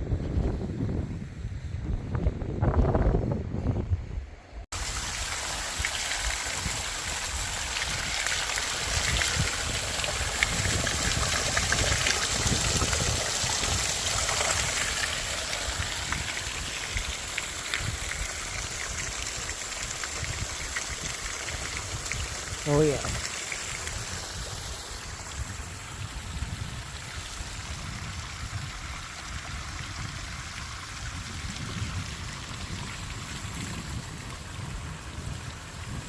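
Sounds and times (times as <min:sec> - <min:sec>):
strong wind on microphone: 0:00.0 - 0:04.6, 0:06.6 - 0:19.2, 0:23.9 - 0:36.0.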